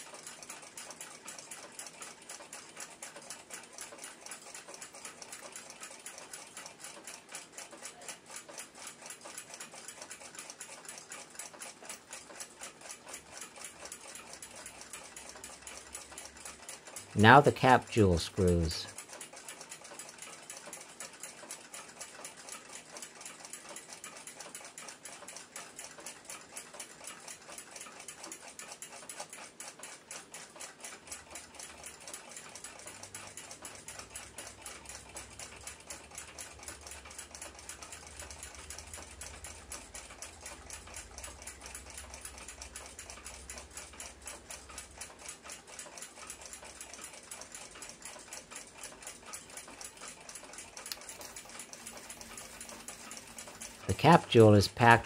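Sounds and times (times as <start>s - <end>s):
clock ticking rapidly: 0.0s - 55.0s.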